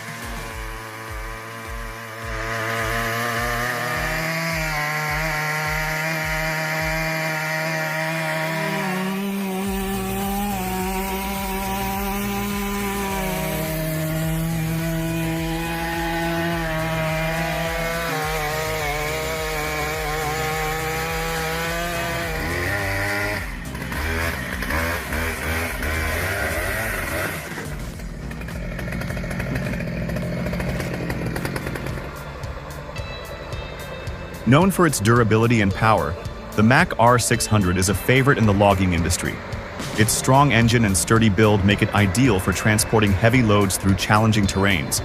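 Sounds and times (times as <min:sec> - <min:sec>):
chainsaw cutting through log: 0:00.0 - 0:45.0.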